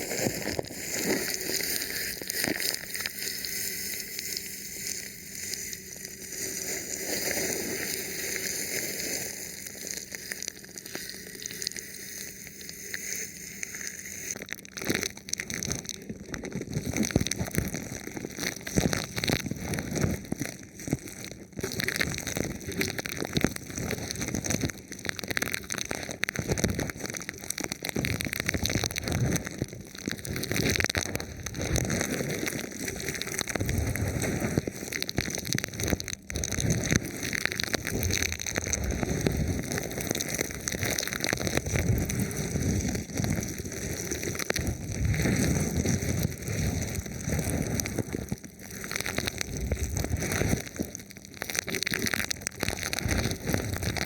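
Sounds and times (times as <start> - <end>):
plastic film crinkling: 0.0 - 54.0.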